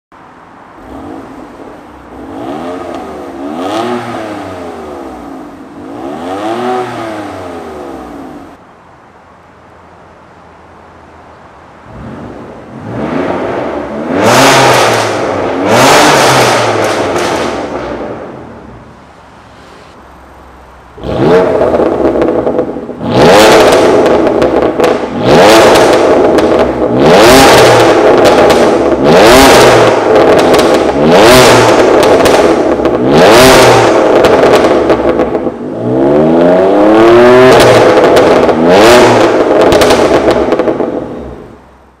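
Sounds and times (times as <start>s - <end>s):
car engine revving: 0.7s - 8.6s, 11.8s - 42.0s.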